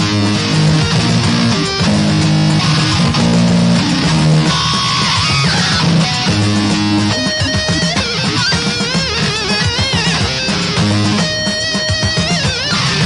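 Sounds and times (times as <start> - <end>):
bass line: 0.0 - 13.0
guitar chords: 0.0 - 13.0.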